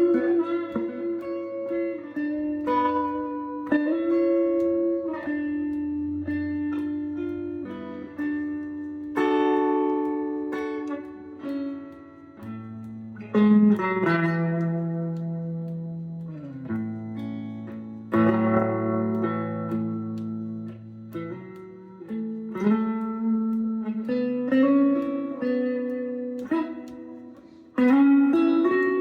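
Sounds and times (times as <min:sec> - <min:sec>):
plucked guitar notes: 0:00.0 - 0:29.0.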